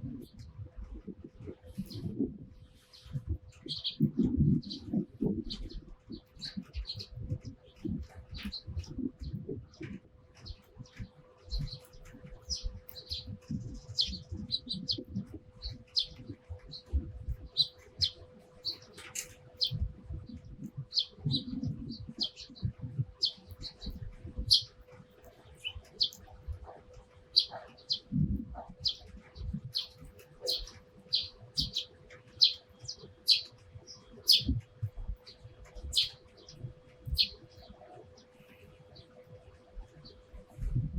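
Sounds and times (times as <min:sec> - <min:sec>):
sparrows chirping: 0:01.5 - 0:40.8.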